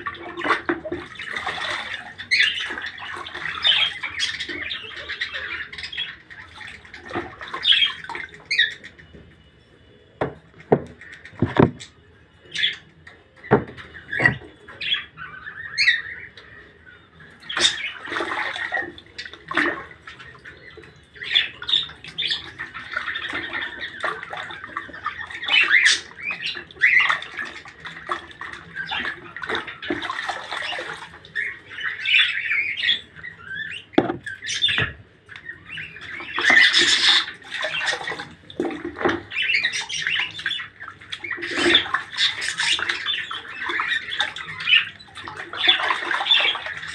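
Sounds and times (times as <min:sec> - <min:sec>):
birds chirping and squawking: 0:00.0 - 0:46.9.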